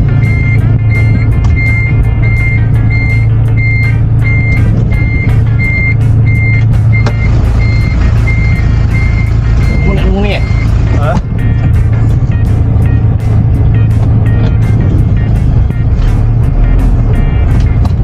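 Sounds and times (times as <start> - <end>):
truck reversing alarm beeping: 0.0 - 15.9
truck engine running: 0.0 - 18.0.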